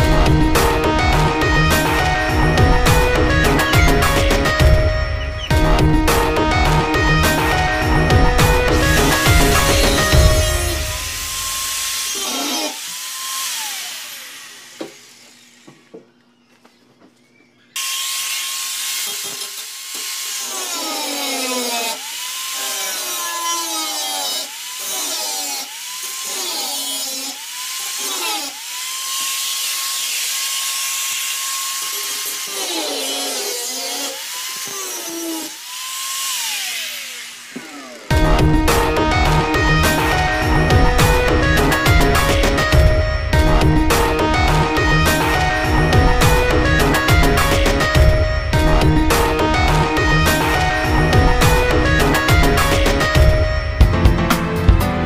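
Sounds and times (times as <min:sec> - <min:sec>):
angle grinder cutting steel: 0:00.0 - 0:15.8, 0:17.8 - 0:53.9.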